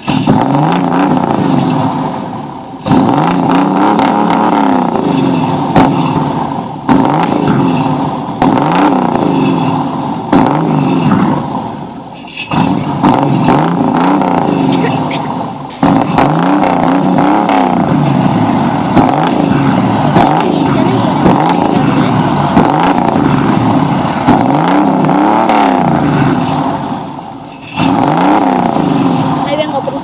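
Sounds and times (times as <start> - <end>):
car engine revving: 0.0 - 30.0
exhaust cracks: 0.0 - 30.0.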